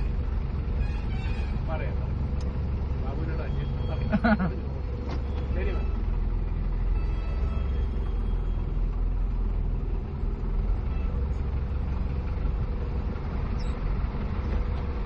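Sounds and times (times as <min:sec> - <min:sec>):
vehicle engines idling: 0:00.0 - 0:15.0.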